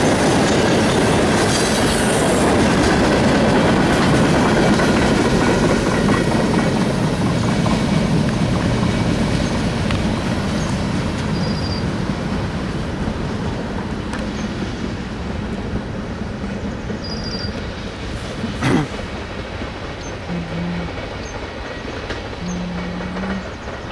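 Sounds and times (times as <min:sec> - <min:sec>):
freight train wheels on rail: 0:00.0 - 0:23.9.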